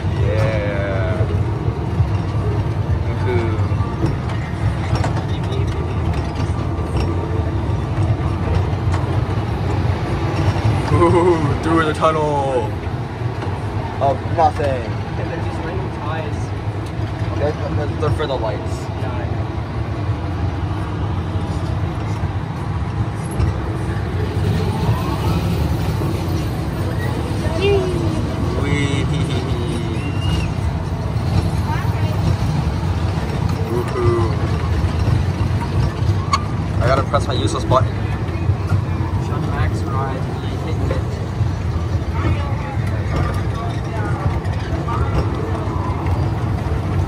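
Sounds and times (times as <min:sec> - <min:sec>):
ride cars rumbling on track: 0:00.0 - 0:47.0.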